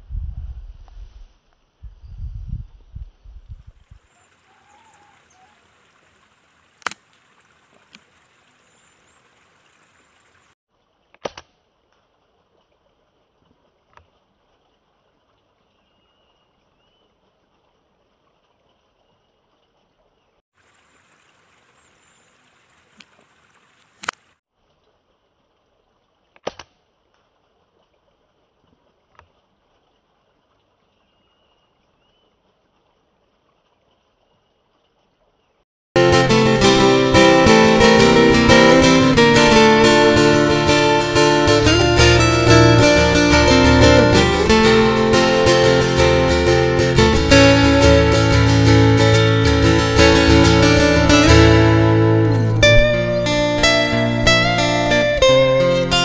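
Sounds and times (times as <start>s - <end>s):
faint outdoor hiss: 3.3s - 18.6s, 19.3s - 56.0s.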